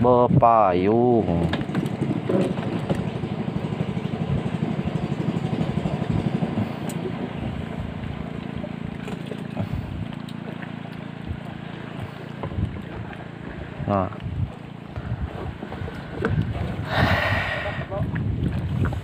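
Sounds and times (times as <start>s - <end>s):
motor running: 1.4s - 17.8s.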